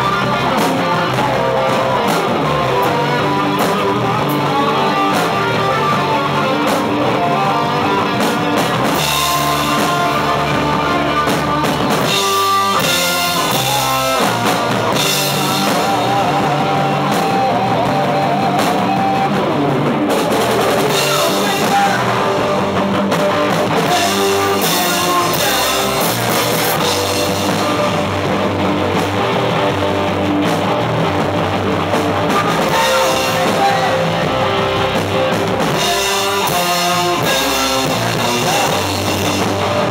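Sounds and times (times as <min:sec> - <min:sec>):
bass guitar: 0:00.0 - 0:39.9
drum kit with cymbals: 0:00.0 - 0:39.9
electric guitar: 0:00.0 - 0:39.9.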